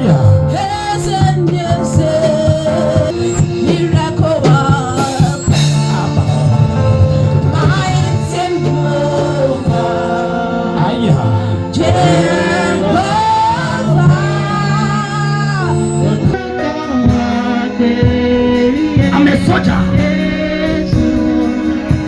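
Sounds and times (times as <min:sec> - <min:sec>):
band with bass: 0:00.0 - 0:22.0
voices singing gospel: 0:00.0 - 0:22.0.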